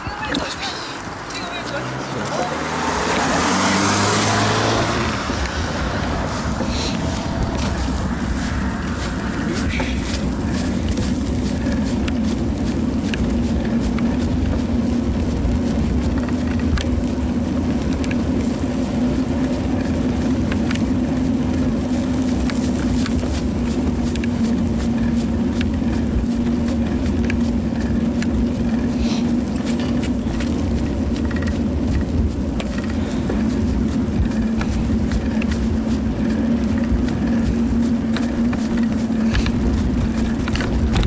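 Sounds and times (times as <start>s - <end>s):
wind and tyre rumble: 0.0s - 41.0s
low hum: 3.2s - 41.0s
small clicks and rattles: 5.2s - 41.0s.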